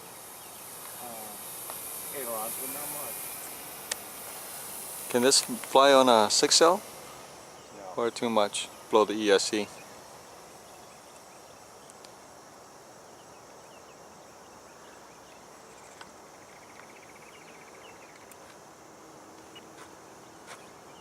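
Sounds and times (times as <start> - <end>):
insect trill: 0.0 - 21.0
insects chirping: 0.0 - 21.0.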